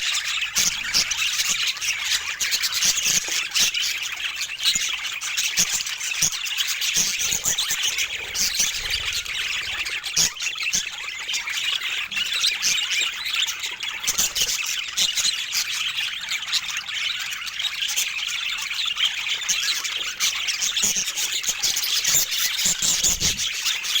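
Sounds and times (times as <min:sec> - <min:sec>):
budgerigars chattering and chirping: 0:00.0 - 0:24.0.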